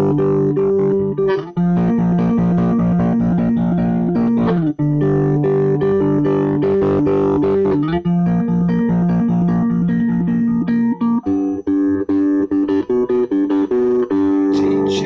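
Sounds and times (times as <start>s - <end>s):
electric guitar riff: 0.0s - 15.0s.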